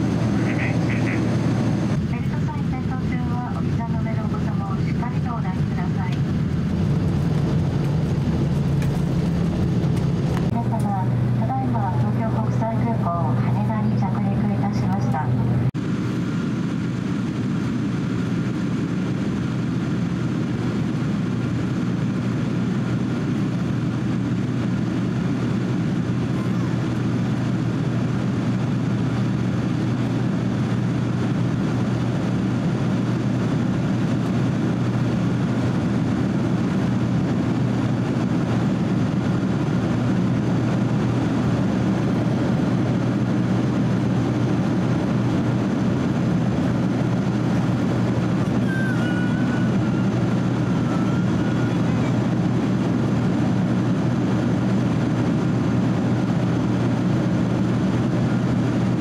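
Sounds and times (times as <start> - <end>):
deep hum: 0.0 - 21.2, 25.2 - 55.3
jet engines roaring in cabin: 0.0 - 59.0
rushing airflow: 0.0 - 59.0.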